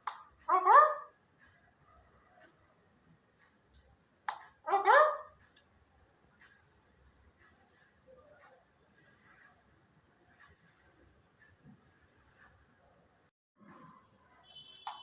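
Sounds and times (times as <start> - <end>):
faint chirps: 0.0 - 15.0
high-pitched cricket trill: 0.0 - 15.0.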